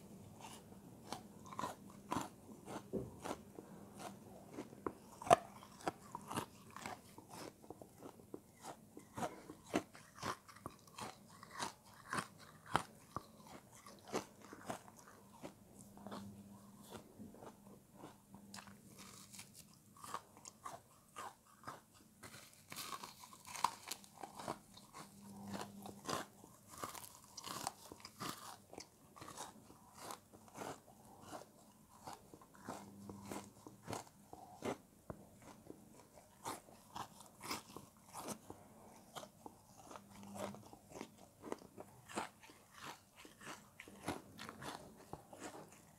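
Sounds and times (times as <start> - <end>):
crunchy chewing of ice: 0.0 - 45.9.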